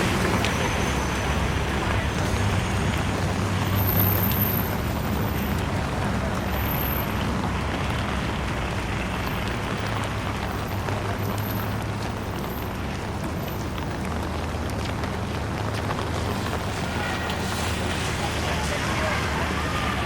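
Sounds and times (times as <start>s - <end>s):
rain on wet road: 0.0s - 20.0s
traffic engines humming: 0.0s - 20.0s.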